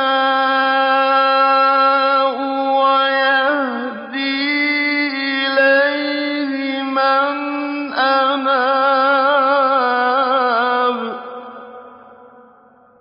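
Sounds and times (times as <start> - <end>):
man chanting recitation: 0.0 - 11.8.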